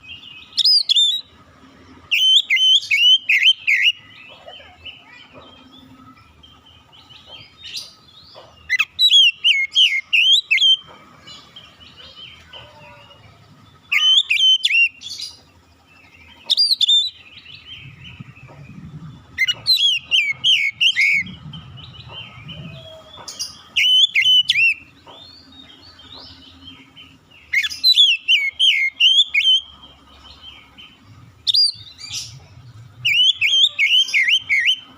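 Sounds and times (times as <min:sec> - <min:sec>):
bird whistling song: 0:00.0 - 0:01.3, 0:02.0 - 0:04.2, 0:06.8 - 0:11.0, 0:13.7 - 0:15.4, 0:16.2 - 0:34.9
soft bird chirps: 0:00.0 - 0:34.9.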